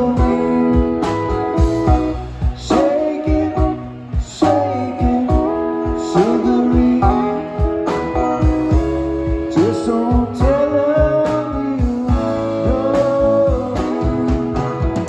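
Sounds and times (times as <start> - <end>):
electric bass: 0.0 - 15.0
electric guitar: 0.0 - 15.0
steady drum beat: 0.0 - 15.0.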